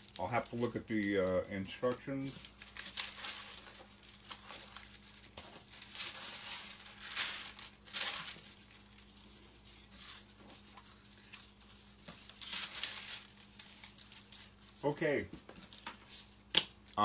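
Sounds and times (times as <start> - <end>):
paper sheets rustling: 0.0 - 16.4.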